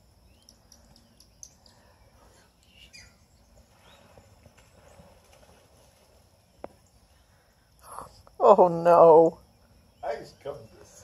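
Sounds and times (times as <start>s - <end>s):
faint birds chirping: 0.0s - 11.0s
high insect drone: 0.0s - 11.0s.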